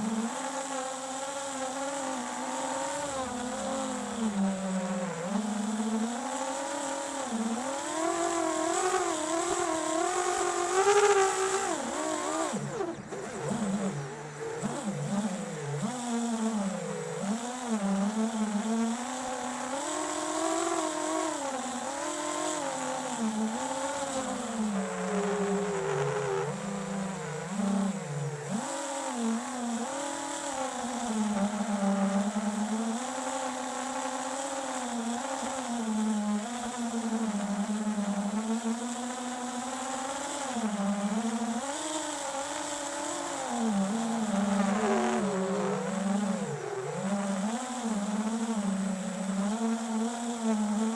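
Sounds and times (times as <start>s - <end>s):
drone motors buzzing: 0.0s - 50.9s.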